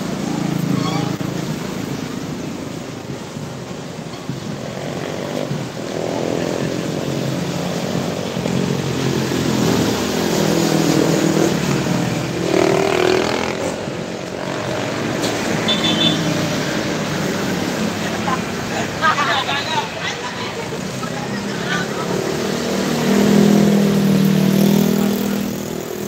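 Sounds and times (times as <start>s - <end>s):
cars passing: 0.0s - 26.0s
motorcycles passing: 0.0s - 26.0s.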